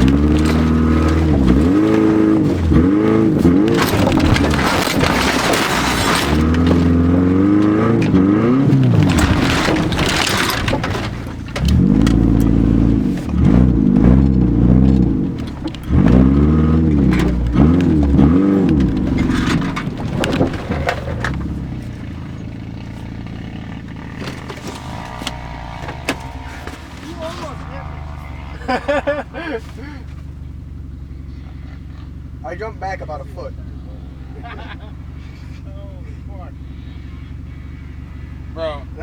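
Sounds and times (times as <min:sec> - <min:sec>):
vehicle engine revving: 0:00.0 - 0:39.0.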